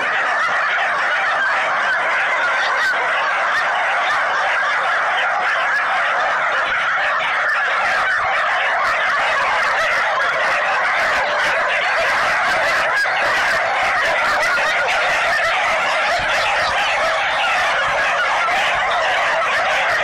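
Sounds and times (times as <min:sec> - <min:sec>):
dogs barking and yelping: 0:00.0 - 0:20.0.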